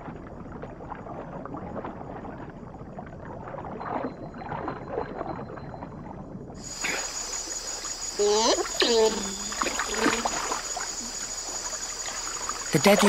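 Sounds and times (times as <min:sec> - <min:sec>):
underwater churning and bubbling: 0:00.0 - 0:13.0.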